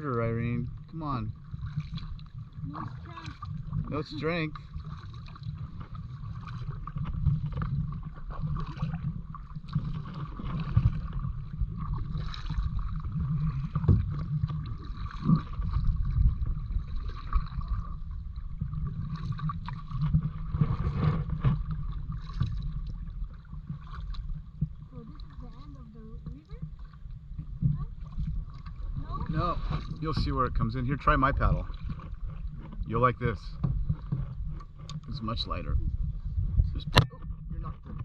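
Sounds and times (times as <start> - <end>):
paddle strokes in water: 0.0 - 38.0
water lapping at hull: 0.0 - 38.0
wind rumble on microphone: 0.0 - 38.0.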